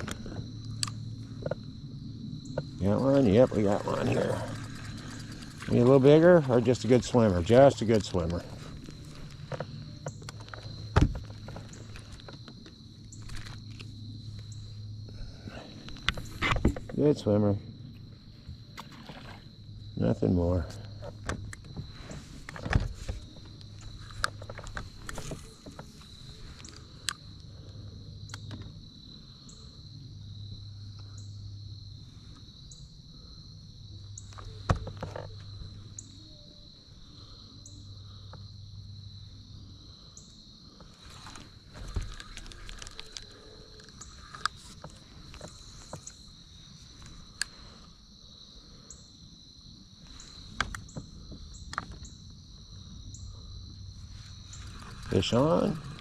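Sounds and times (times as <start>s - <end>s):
low hum: 0.0s - 47.9s
high-pitched insect chorus: 0.0s - 56.0s.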